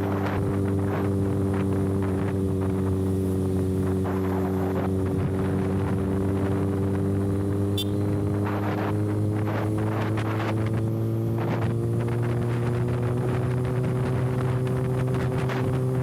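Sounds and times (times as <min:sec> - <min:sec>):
motorcycle engine at cruising revs: 0:00.0 - 0:16.0
wind on microphone: 0:00.0 - 0:16.0.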